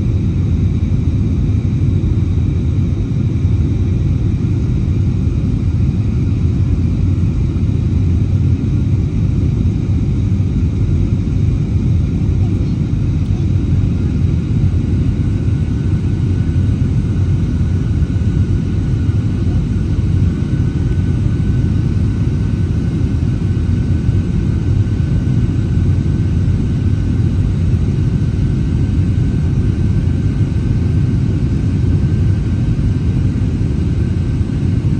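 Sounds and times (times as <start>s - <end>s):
airplane cabin engine roar: 0.0s - 34.9s.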